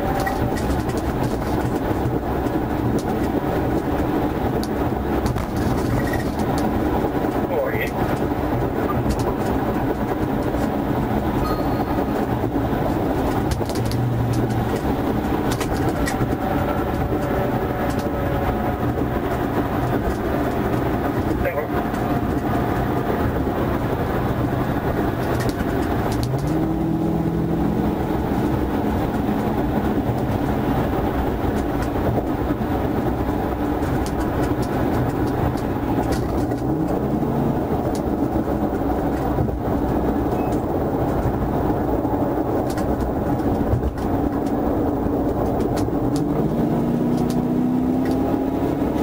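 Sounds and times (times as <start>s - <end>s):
car engine accelerating: 0.0s - 49.0s
wind noise: 0.0s - 49.0s.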